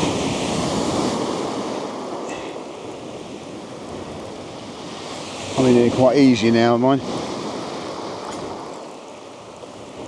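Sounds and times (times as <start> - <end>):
surf washing on shingle: 0.0 - 10.0
wind noise on microphone: 0.0 - 10.0.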